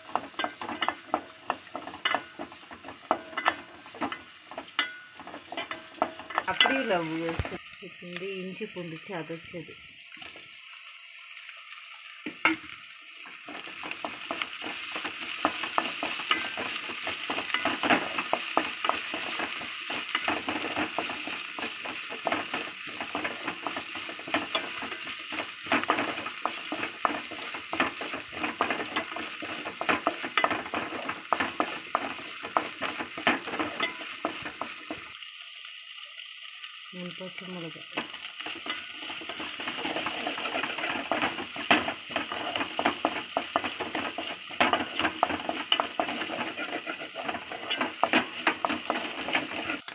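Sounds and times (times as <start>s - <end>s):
wooden spatula scraping pot: 0.0s - 7.6s, 13.5s - 35.0s, 38.0s - 49.9s
shallots sizzling in a pot: 0.0s - 49.9s.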